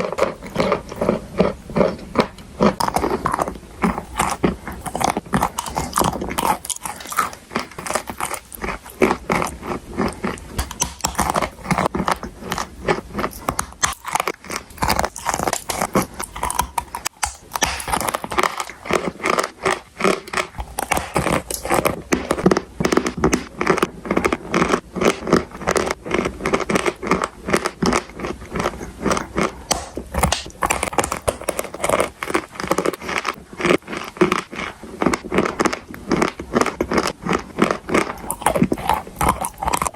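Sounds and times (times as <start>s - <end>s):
chalk being bitten and chewed: 0.0s - 39.9s.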